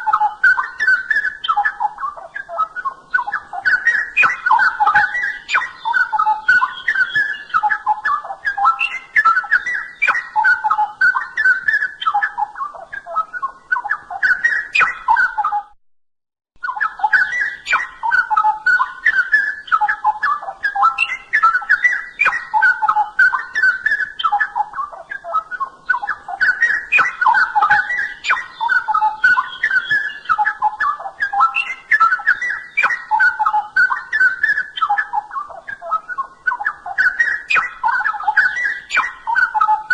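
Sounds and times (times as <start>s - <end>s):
bird singing warbling phrases: 0.0s - 15.8s, 16.6s - 39.9s.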